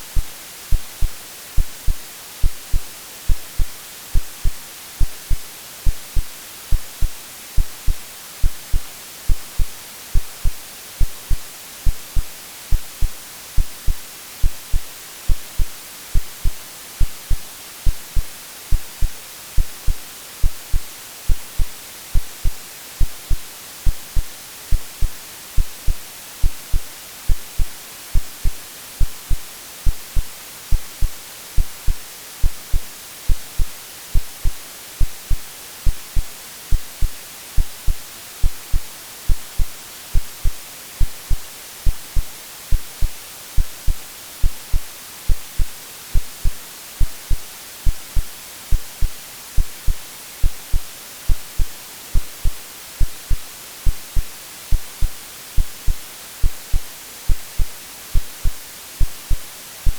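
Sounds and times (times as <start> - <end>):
heartbeat thumps: 0.0 - 59.9
white noise hiss: 0.0 - 59.9.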